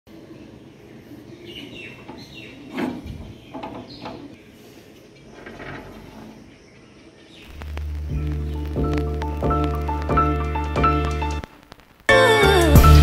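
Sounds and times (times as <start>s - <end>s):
small birds chirping: 0.1s - 11.4s.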